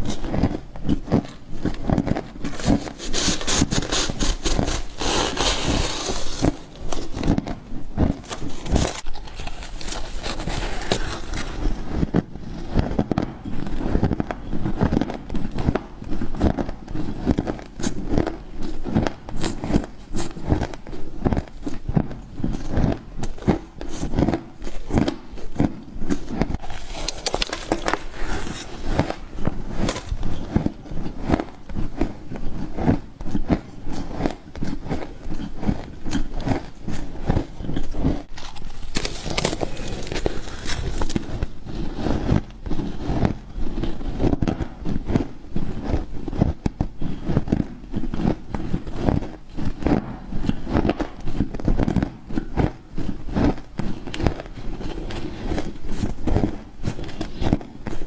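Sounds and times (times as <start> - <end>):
person crunching frost: 0.0 - 58.0.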